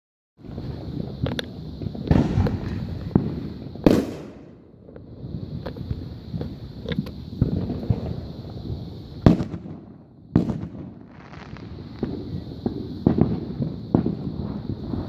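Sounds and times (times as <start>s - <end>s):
fireworks bangs: 0.4s - 15.0s
fireworks rumble and crackle: 0.4s - 15.0s.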